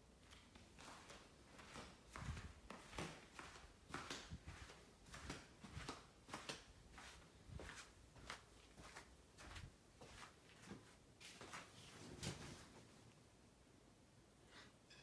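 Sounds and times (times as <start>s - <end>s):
faint footsteps indoors: 0.0s - 13.4s.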